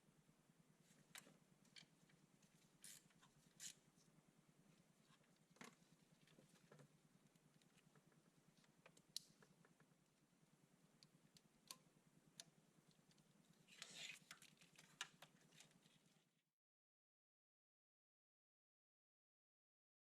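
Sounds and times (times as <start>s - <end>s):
faint low hum: 0.0s - 16.4s.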